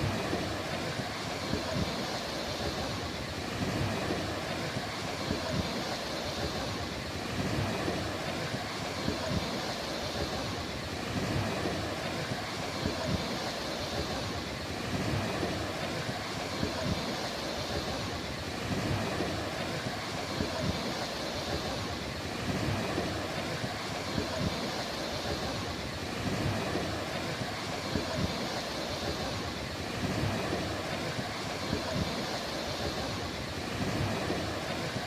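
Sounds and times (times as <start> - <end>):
sea waves washing onto beach: 0.0 - 35.0.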